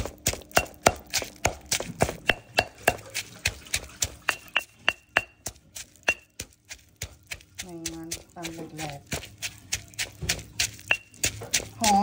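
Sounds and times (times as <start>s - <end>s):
stone pestle pounding in mortar: 0.0s - 12.0s.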